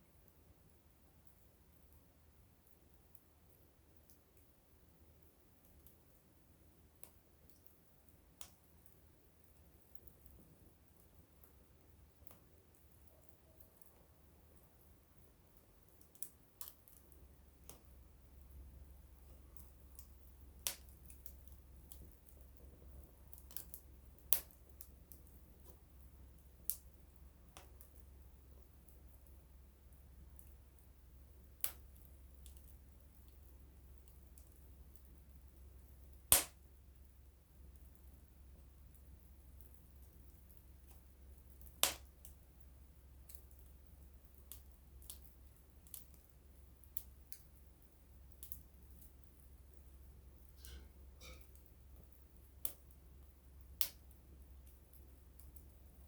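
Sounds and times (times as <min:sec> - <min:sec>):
campfire crackling: 0:00.0 - 0:56.0
sharp pops and snaps of fire: 0:00.0 - 0:56.0.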